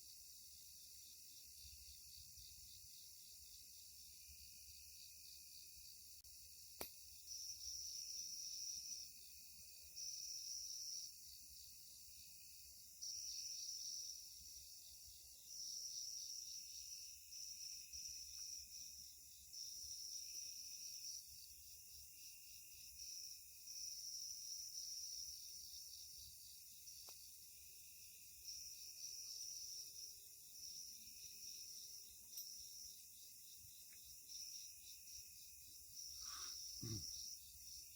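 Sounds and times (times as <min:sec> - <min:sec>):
high insect chorus: 0:00.0 - 0:37.9
insects buzzing trills: 0:00.0 - 0:37.9.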